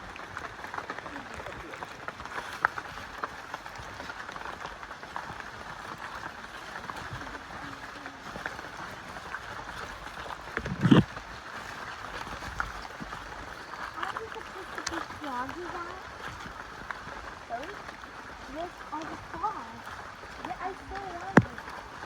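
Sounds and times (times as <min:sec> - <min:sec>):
footsteps on wet trail: 0:00.0 - 0:22.0
light ticks and drips: 0:00.0 - 0:22.0.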